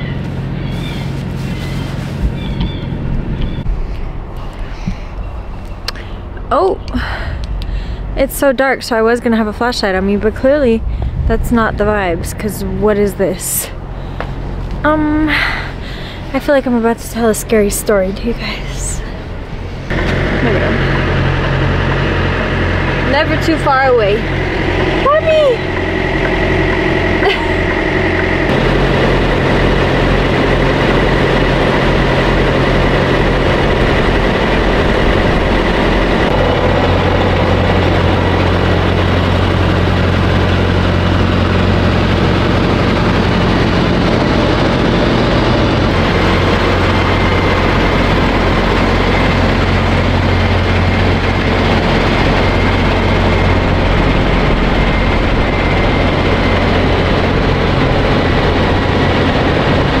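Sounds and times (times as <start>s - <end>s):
diesel truck engines droning: 0.0s - 60.0s
refrigeration units running: 0.0s - 60.0s.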